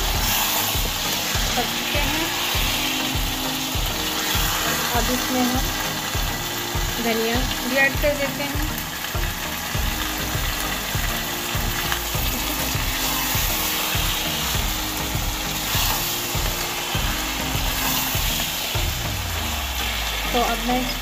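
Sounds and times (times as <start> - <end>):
spatula stirring in a pan: 0.0 - 7.6, 8.9 - 20.2
curry sizzling in a pan: 0.0 - 21.0.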